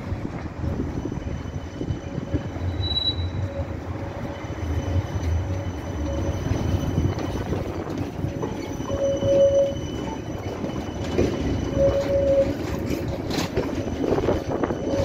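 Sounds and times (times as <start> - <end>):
tram wheels rumbling over rails: 0.0 - 15.0
high wheel squeal: 0.6 - 15.0.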